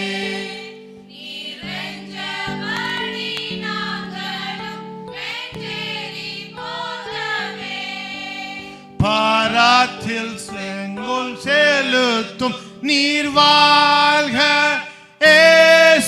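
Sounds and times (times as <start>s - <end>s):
church hymn music: 0.0s - 16.0s.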